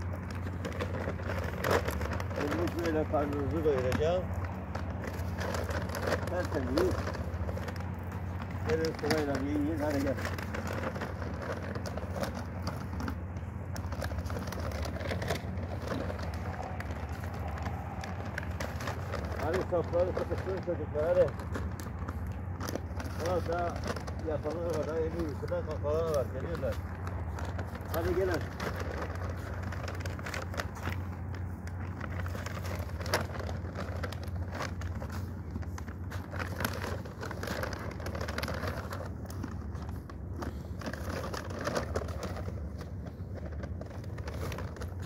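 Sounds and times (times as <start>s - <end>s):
plastic bag rustling: 0.0s - 45.0s
steady low hum: 0.0s - 45.0s
steady low rumble: 0.0s - 45.0s.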